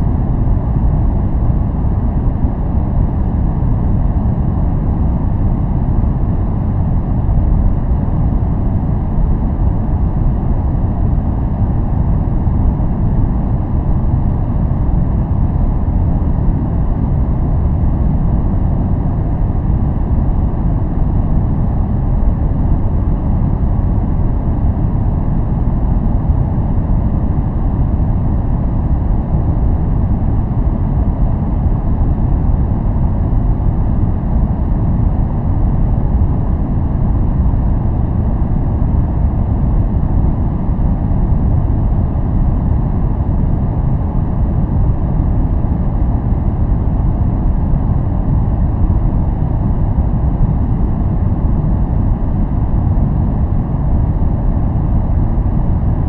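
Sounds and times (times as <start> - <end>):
deep rumbling white noise: 0.0 - 56.0.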